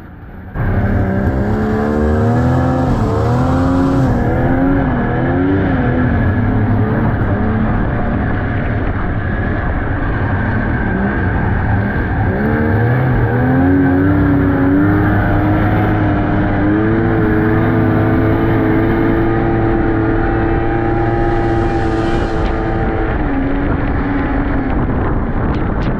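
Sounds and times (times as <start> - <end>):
snowmobile engine running: 0.6 - 25.9.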